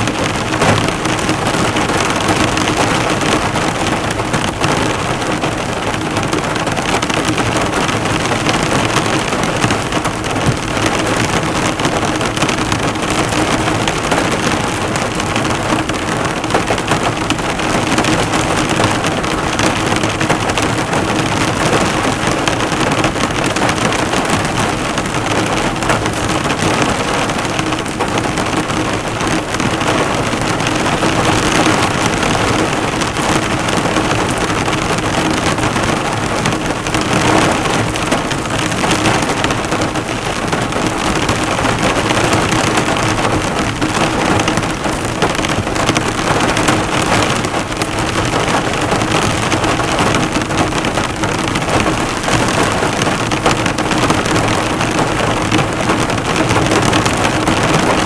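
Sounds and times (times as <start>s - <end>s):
heavy rain drumming on car metal: 0.0s - 58.0s.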